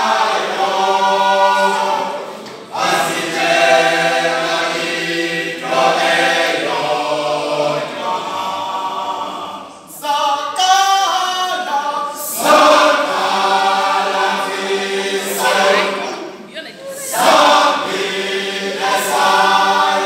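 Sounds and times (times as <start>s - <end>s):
male choir singing a cappella: 0.0s - 20.0s.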